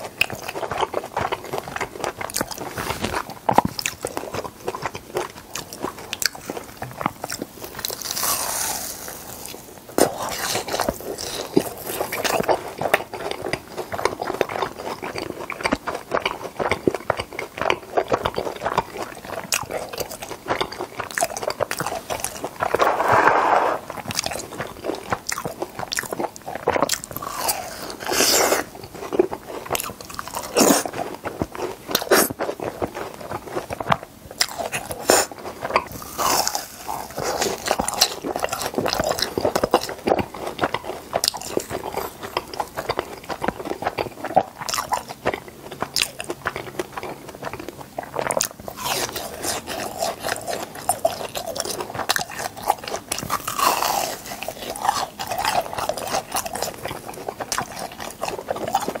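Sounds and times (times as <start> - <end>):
crunchy food being chewed: 0.0 - 59.0.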